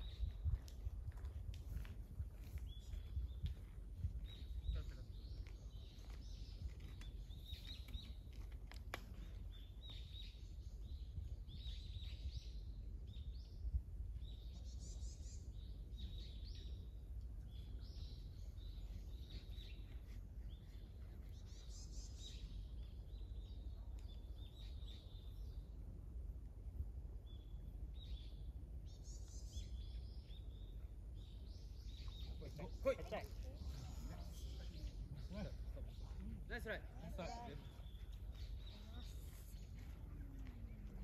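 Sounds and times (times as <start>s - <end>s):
small birds chirping: 0.0s - 26.0s, 27.1s - 41.0s
low steady rumble: 0.0s - 32.5s, 33.2s - 41.0s.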